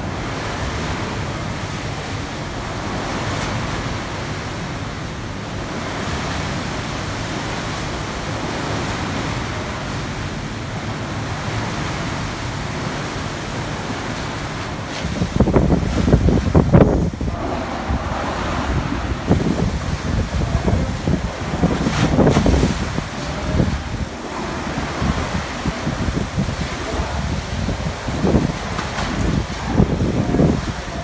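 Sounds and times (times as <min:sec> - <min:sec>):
pool water sloshing: 0:00.0 - 0:31.0.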